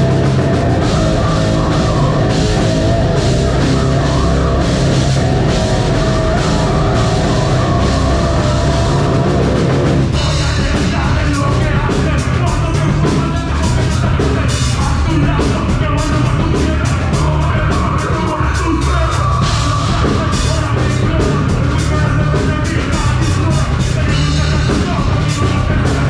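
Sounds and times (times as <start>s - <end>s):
bass guitar: 0.0s - 26.0s
distorted guitars: 0.0s - 26.0s
drum kit hit rapidly: 0.0s - 26.0s
shouted vocals: 0.0s - 26.0s.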